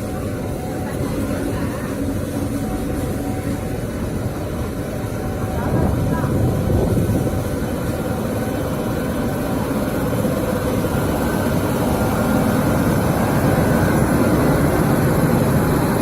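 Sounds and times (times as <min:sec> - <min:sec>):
faint steady tones: 0:00.0 - 0:16.0
train rumbling: 0:00.0 - 0:16.0.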